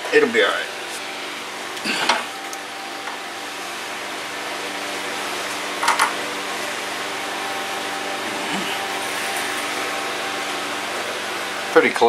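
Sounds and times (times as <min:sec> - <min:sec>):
fan motor whirring: 0:00.0 - 0:12.0
low hum: 0:00.6 - 0:12.0.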